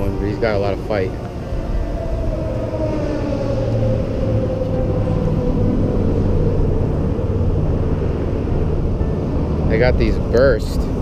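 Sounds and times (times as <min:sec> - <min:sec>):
passing vehicle engine drone: 0:00.0 - 0:11.0.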